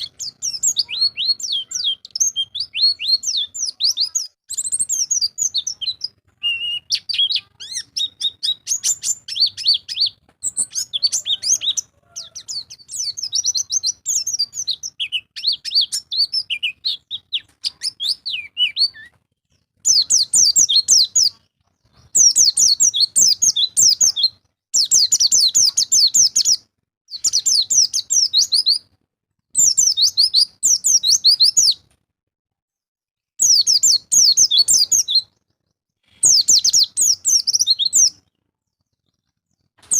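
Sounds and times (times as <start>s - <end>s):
bird chattering song: 0.0s - 28.9s, 29.6s - 31.8s, 33.4s - 39.9s
bird twittering chirps: 0.0s - 28.9s, 29.6s - 31.8s, 33.4s - 39.9s.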